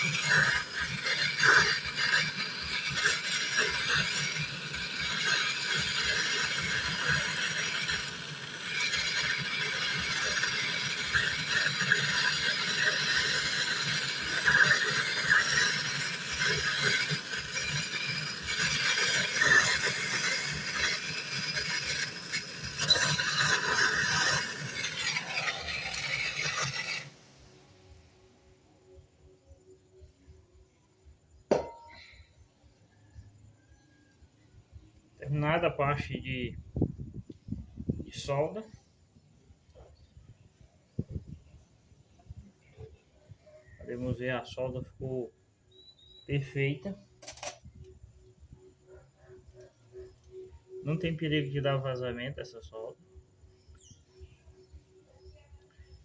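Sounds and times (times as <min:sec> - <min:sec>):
brazing torch flame hissing: 0:00.0 - 0:29.3, 0:35.2 - 0:52.9.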